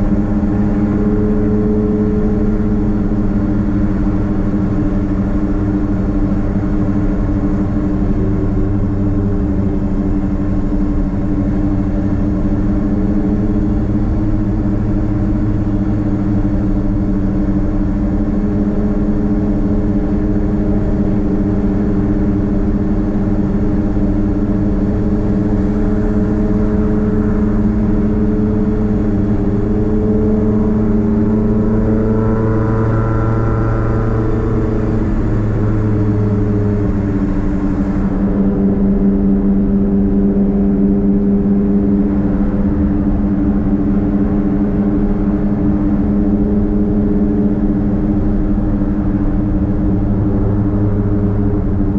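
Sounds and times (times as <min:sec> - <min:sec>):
car engine droning: 0:00.0 - 0:51.9.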